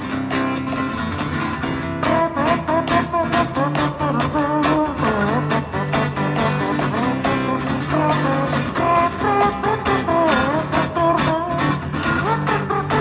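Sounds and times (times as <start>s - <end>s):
strummed guitar: 0.0s - 13.0s.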